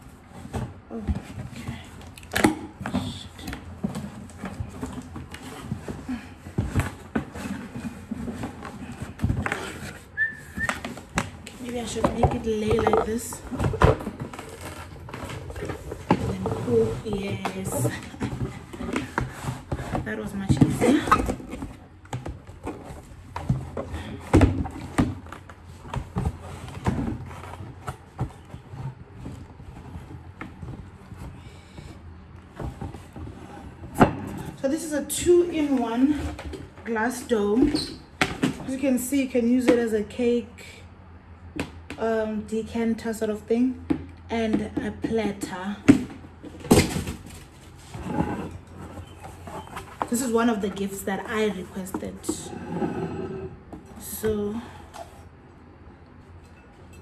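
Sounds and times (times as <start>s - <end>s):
cardboard rustling and scraping: 0.0s - 39.3s, 45.1s - 55.3s.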